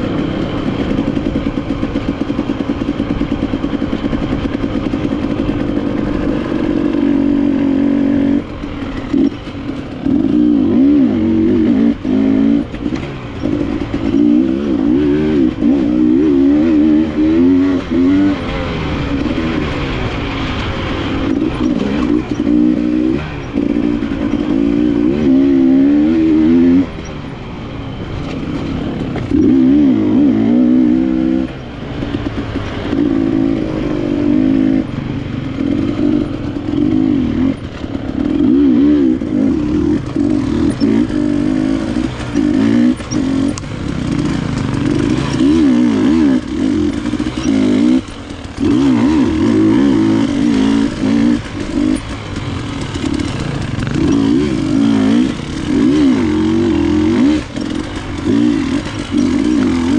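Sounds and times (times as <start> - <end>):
dirt bike engine revving: 0.0 - 27.2, 27.9 - 59.9.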